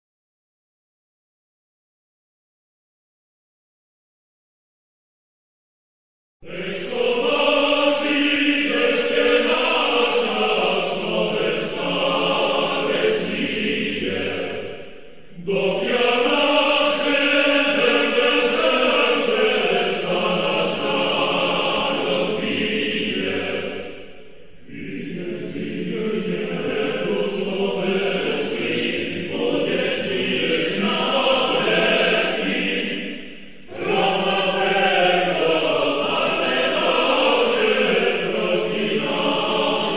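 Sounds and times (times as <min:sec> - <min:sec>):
choir singing: 0:06.4 - 0:39.9.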